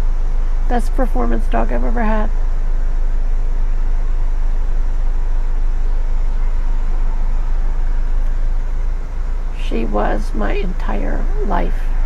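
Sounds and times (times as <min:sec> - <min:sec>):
engine idling inside cabin: 0:00.0 - 0:11.7.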